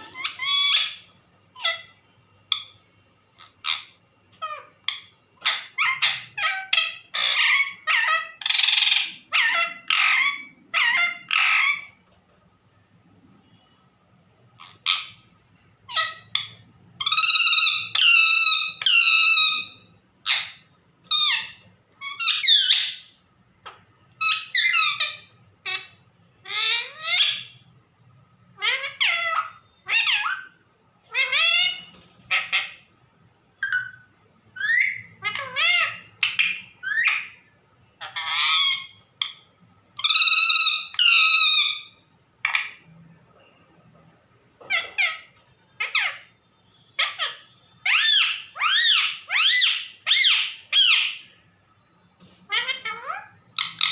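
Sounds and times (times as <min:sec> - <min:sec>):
parrot calling: 0:00.0 - 0:12.1, 0:14.5 - 0:27.7, 0:28.5 - 0:32.9, 0:33.6 - 0:42.9, 0:44.6 - 0:51.4, 0:52.4 - 0:53.9.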